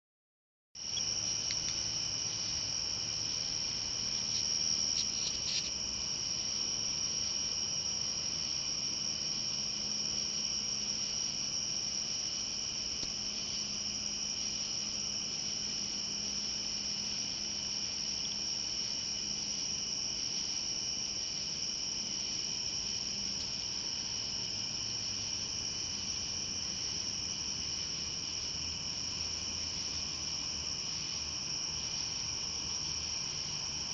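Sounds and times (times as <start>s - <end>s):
crickets chirping: 0.8s - 33.9s.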